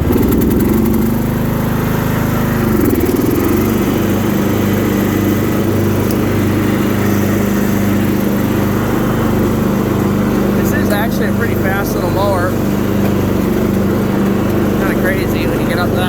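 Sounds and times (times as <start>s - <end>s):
riding mower engine running: 0.0s - 16.0s.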